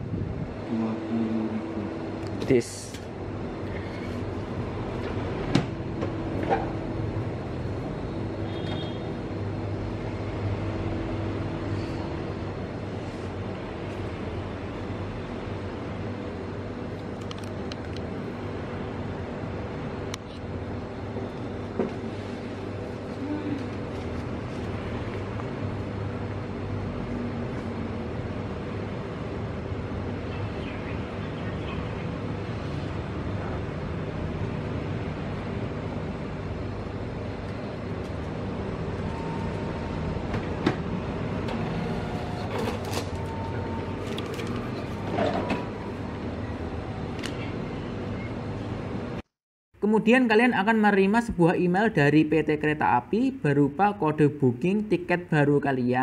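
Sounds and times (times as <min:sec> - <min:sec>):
store checkout background hum: 0:00.2 - 0:56.0.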